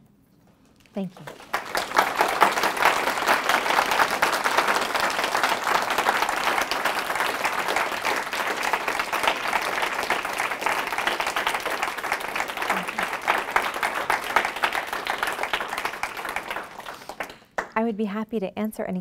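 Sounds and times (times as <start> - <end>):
audience applauding: 1.2 - 17.8.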